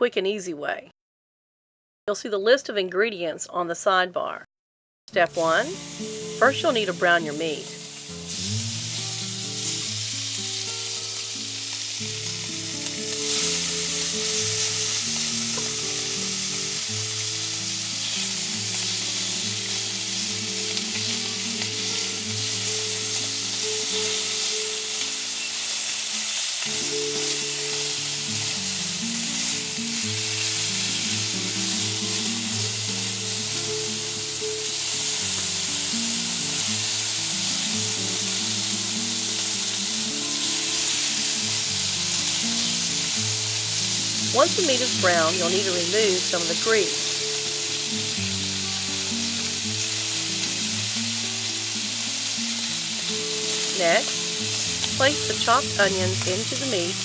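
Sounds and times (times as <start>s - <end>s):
meat sizzling in a pan: 5.3s - 57.0s.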